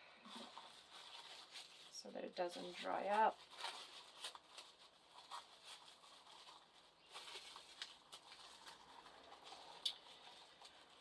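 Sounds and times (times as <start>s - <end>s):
paint containers rustling: 0.0s - 11.0s.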